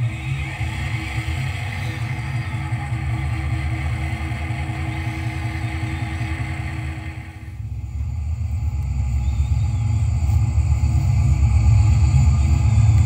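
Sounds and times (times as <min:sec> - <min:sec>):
low engine rumble: 0:00.0 - 0:13.0
model train track and motor noise: 0:00.0 - 0:13.0.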